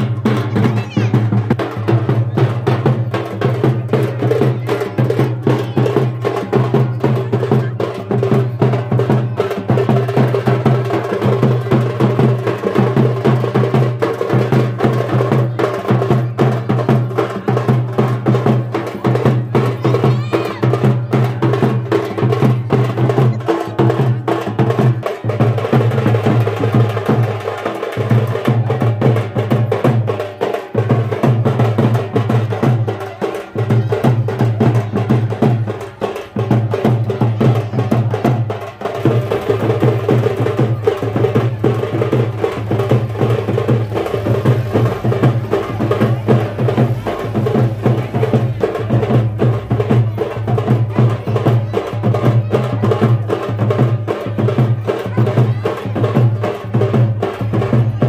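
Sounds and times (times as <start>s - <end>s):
hand drum dance rhythm: 0.0s - 58.0s.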